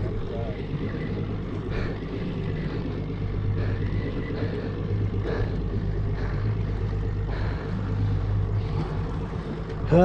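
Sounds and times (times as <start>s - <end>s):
boat engine humming: 0.0s - 10.0s
water noise: 0.0s - 10.0s.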